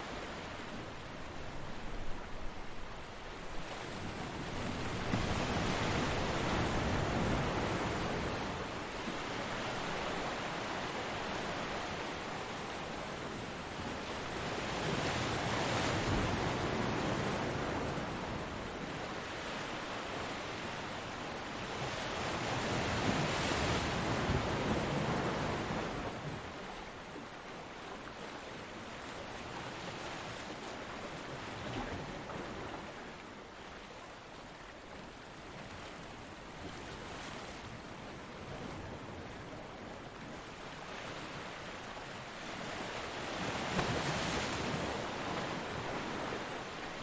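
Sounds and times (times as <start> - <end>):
ocean waves crashing on beach: 0.0 - 26.9, 35.9 - 47.0.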